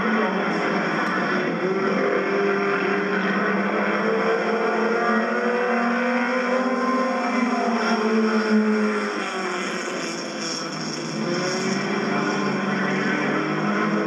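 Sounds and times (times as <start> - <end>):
racing car engines droning: 0.0 - 14.0.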